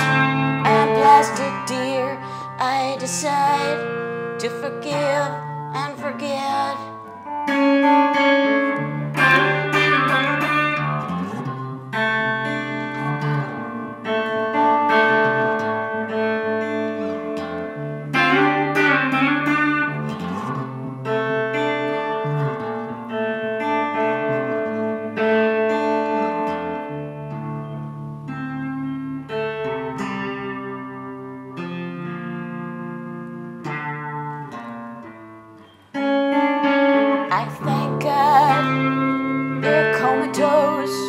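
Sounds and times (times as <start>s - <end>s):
electric guitar playing chords: 0.0s - 41.0s.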